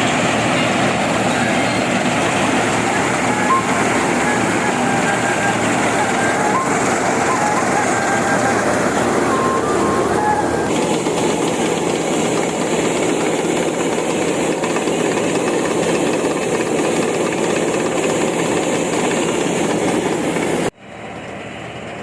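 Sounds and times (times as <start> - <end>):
combine harvester clatter: 0.0 - 22.0.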